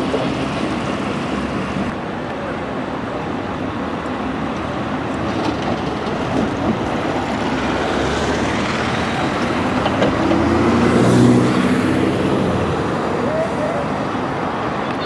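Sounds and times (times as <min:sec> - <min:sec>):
city street traffic noise: 0:00.0 - 0:15.0
diesel bus passing by: 0:00.0 - 0:15.0.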